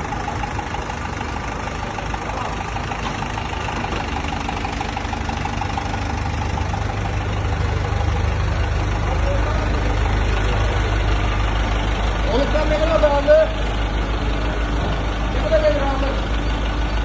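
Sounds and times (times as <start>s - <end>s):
construction machine engine rumble: 0.0s - 17.0s.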